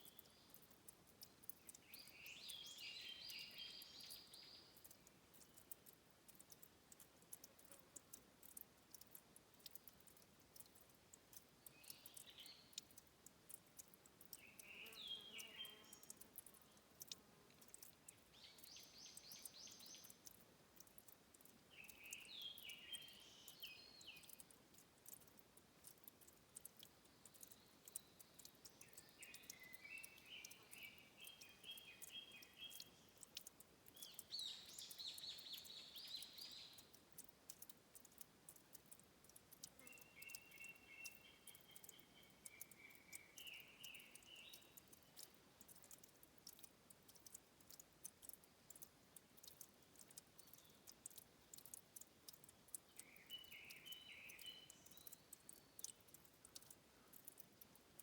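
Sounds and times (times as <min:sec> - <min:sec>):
songbird singing: 0:00.0 - 0:58.0
water trickling: 0:00.0 - 0:58.0.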